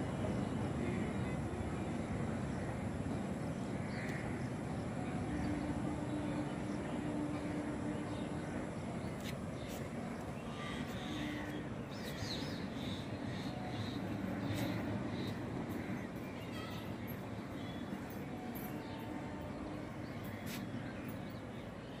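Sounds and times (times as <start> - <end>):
distant passing train rumble: 0.0 - 21.9.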